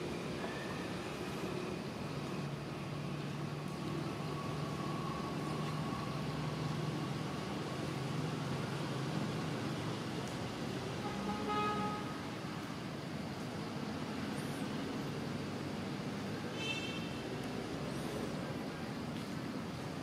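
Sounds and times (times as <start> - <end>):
motor traffic hum: 0.0 - 20.0.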